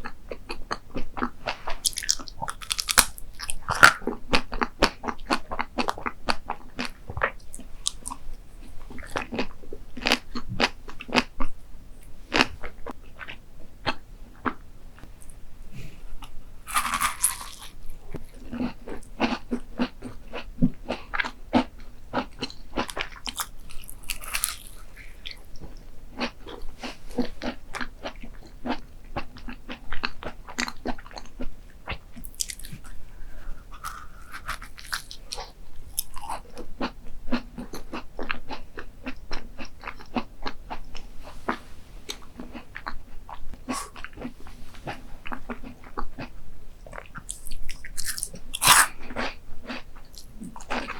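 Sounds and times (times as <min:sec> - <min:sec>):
crunchy chewing: 0:00.0 - 0:11.4, 0:16.2 - 0:50.9.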